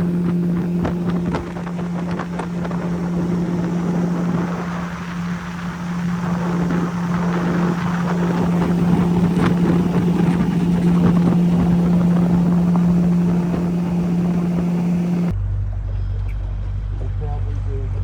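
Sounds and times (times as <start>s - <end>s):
rushing wind: 0.0s - 15.3s
water noise: 0.0s - 15.3s
boat motor running: 0.0s - 18.0s
low hum: 0.0s - 18.0s.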